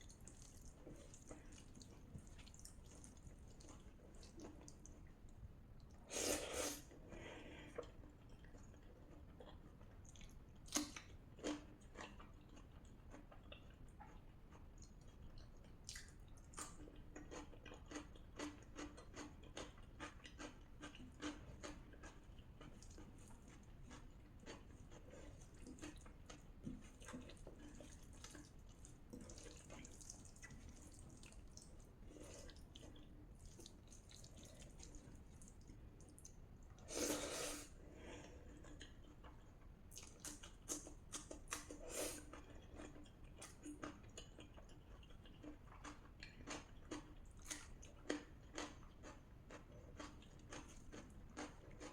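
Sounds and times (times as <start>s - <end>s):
person chewing with mouth smacks: 0.0s - 5.2s, 7.7s - 51.9s.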